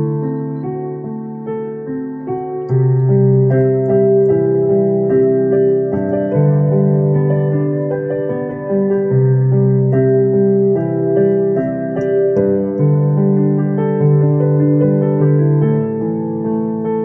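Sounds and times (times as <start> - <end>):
electronic keyboard playing pop ballad: 0.0 - 17.0.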